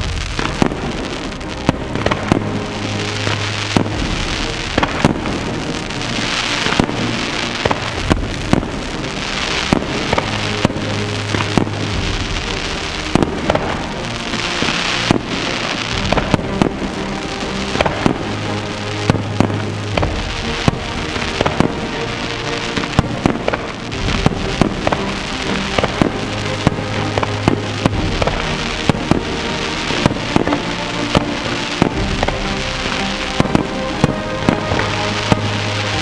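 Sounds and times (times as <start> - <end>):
fireworks bangs: 0.0 - 36.0
fireworks hissing crackle: 0.0 - 36.0.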